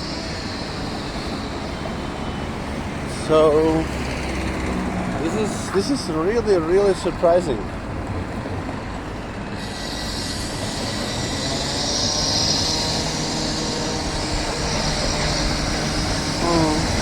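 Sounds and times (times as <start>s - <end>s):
rail vehicle rumbling past: 0.0s - 17.0s
wheels hissing on rails: 0.0s - 17.0s.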